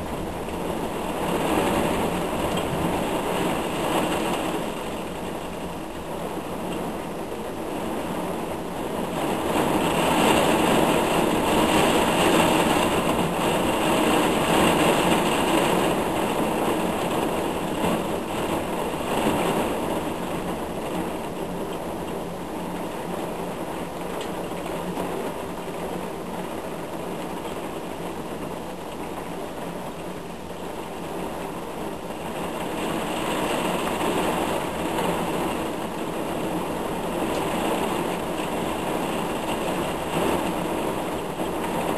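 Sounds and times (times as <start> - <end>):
heavy rain downpour: 0.0 - 41.9.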